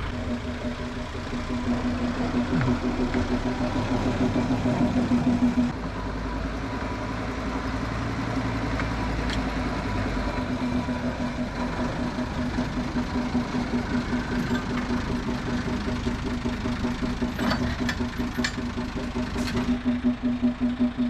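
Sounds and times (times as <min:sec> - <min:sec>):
train locomotive engine pulsing: 0:00.0 - 0:21.0.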